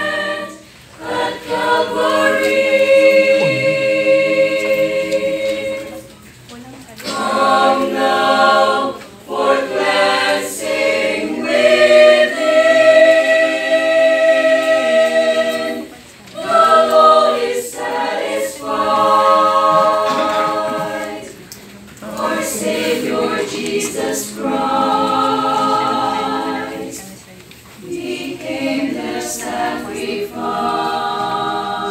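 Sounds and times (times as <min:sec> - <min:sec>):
choir singing a hymn a cappella: 0:00.0 - 0:06.2, 0:07.0 - 0:31.9.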